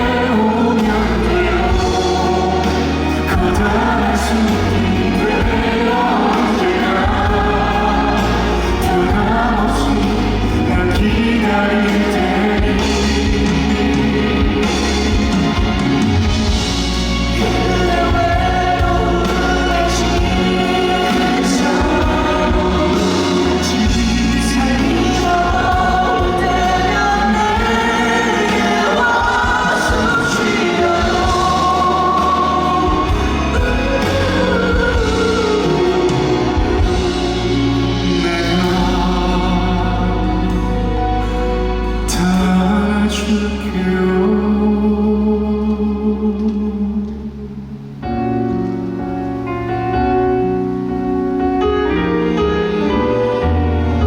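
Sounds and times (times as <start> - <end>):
male vocal quartet singing: 0.0 - 48.1
band accompaniment with bass: 0.0 - 54.0.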